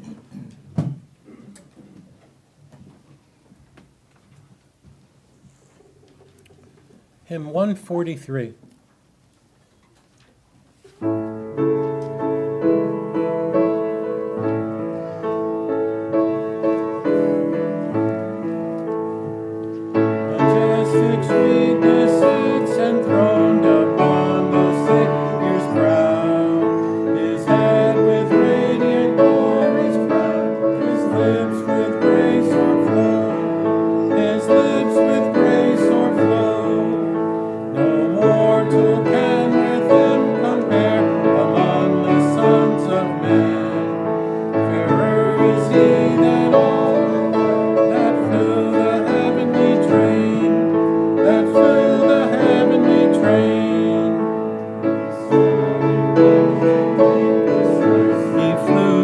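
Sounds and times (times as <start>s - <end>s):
piano playing: 11.0s - 59.0s
voices singing a hymn: 11.5s - 59.0s.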